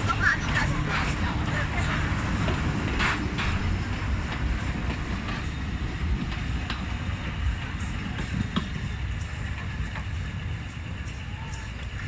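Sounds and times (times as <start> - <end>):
train low rumble: 0.0 - 12.0
wheels clacking over rail joints: 0.0 - 12.0.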